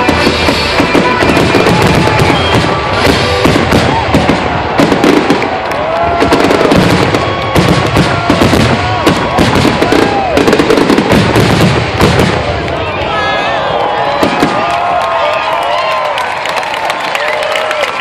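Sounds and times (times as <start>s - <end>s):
fireworks bursting: 0.0s - 15.6s
crowd voices: 0.0s - 18.0s.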